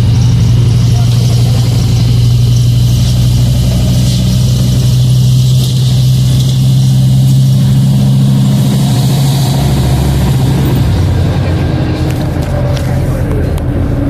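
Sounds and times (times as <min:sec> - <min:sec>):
bus diesel engine rumbling: 0:00.0 - 0:14.0.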